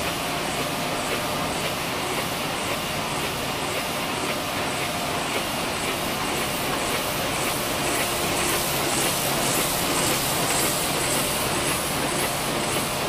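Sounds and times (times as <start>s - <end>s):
printing press clattering: 0.0s - 13.0s.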